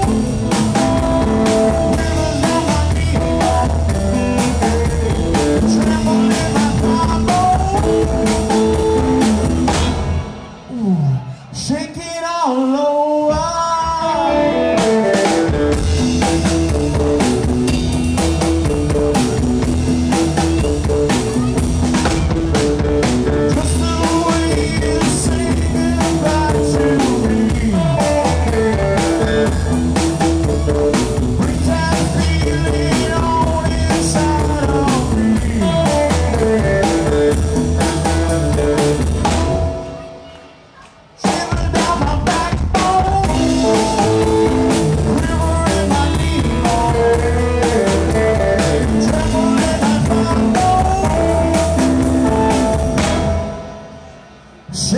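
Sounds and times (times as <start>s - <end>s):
upright bass line: 0.0s - 10.9s, 13.4s - 39.8s, 41.5s - 53.6s
drum kit: 0.0s - 11.3s, 13.3s - 40.2s, 41.2s - 54.2s
electric guitar: 0.0s - 11.4s, 13.3s - 40.3s, 41.4s - 54.9s.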